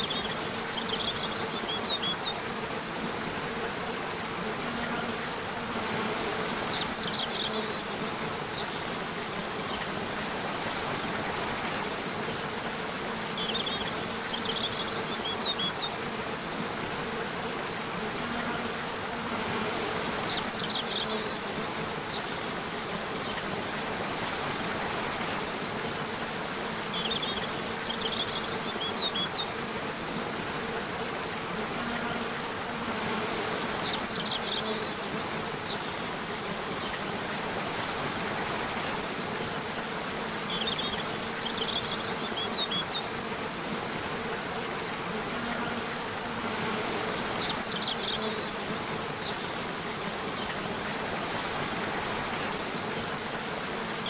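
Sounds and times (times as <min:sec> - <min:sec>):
even hiss: 0:00.0 - 0:54.0.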